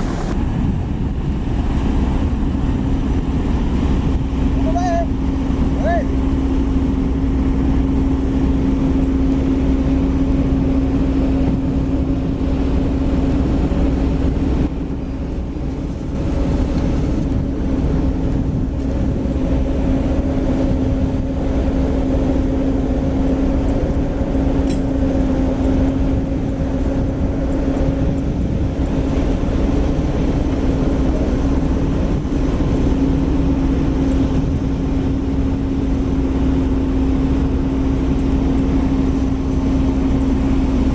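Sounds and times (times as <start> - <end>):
constant droning tone: 0.0 - 40.9
heavy machinery diesel rumble: 0.0 - 40.9.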